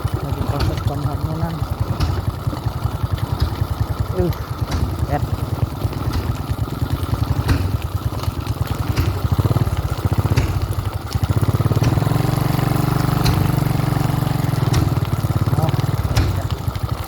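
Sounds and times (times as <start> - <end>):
small motorcycle engine: 0.0 - 17.0.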